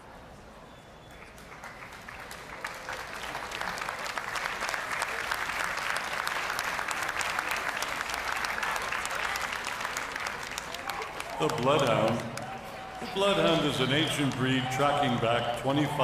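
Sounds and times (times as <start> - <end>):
audience applause: 1.1 - 16.0.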